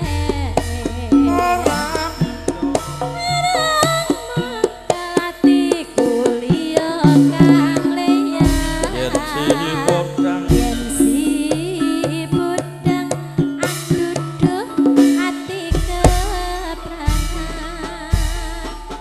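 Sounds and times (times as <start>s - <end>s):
metallophone notes: 0.0s - 16.7s
person singing: 0.0s - 18.7s
hand drum strokes: 0.0s - 19.0s.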